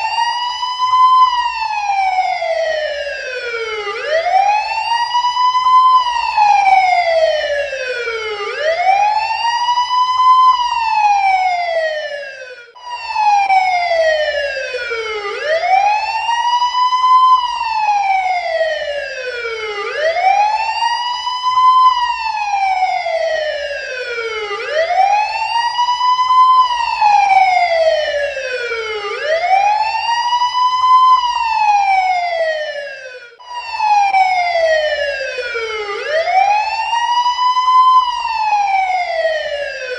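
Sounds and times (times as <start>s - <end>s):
police car siren wailing: 0.0s - 39.9s.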